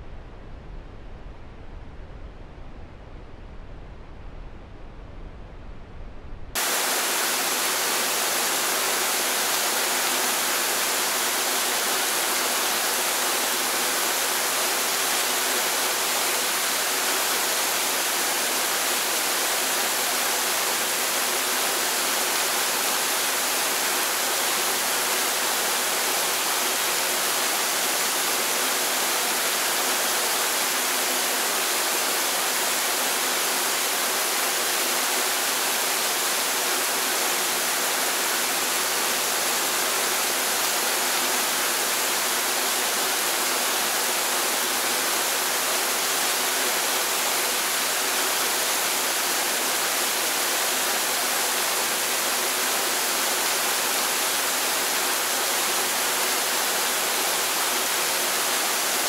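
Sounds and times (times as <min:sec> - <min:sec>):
waterfall rushing: 0:06.6 - 0:59.0.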